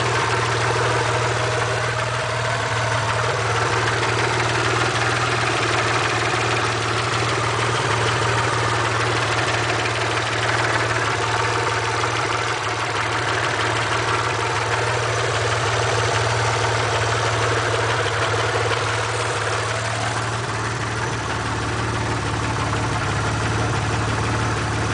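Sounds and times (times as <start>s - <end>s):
car engine idling: 0.0s - 24.9s
fast light engine ticking: 0.0s - 24.9s.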